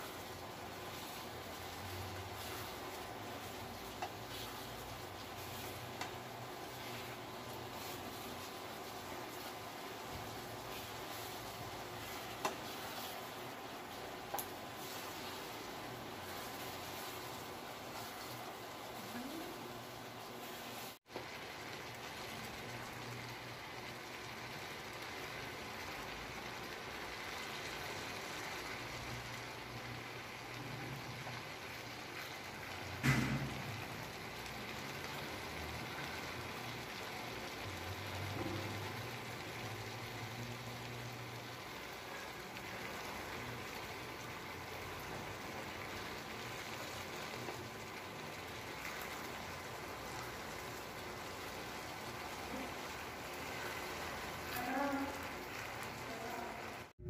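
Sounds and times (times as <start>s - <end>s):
vegetables sizzling in a pan: 0.0s - 56.9s.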